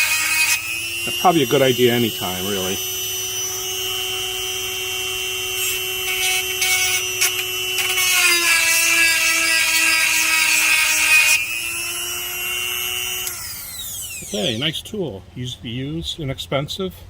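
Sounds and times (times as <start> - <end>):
chainsaw sharpener motor running: 0.0 - 14.7.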